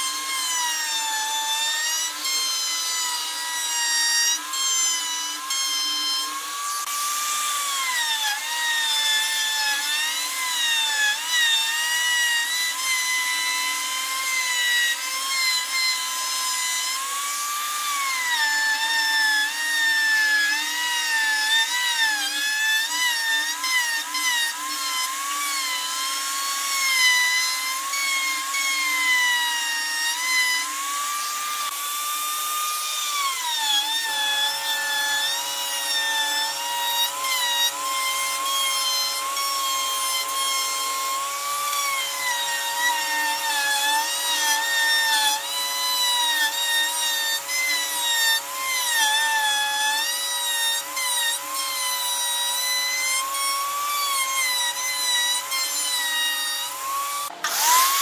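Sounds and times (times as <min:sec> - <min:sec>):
router cutting wood: 0:00.0 - 0:58.0.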